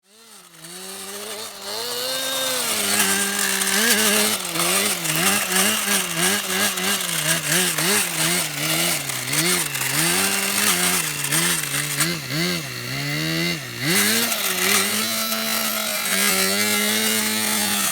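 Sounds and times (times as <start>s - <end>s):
buzzy model car motor revving: 0.0s - 17.9s.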